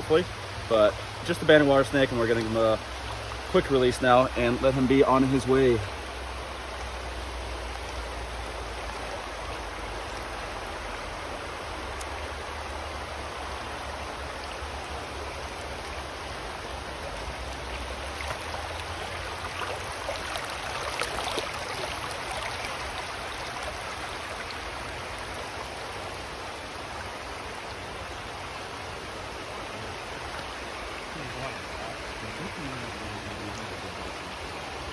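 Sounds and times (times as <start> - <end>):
river water rushing over rocks: 0.0 - 34.9.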